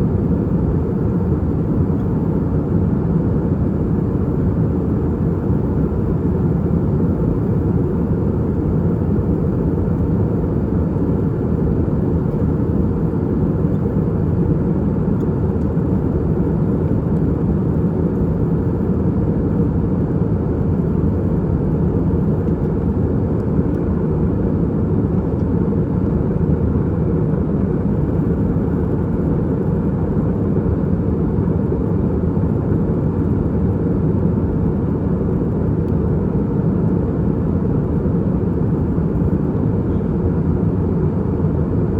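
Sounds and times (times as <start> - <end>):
airplane cabin engine roar: 0.0 - 41.9.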